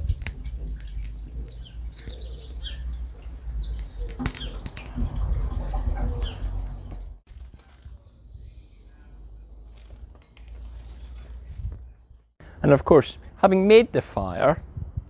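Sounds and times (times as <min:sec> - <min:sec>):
fire popping: 0:00.0 - 0:12.4
twig fire crackling: 0:00.0 - 0:12.4.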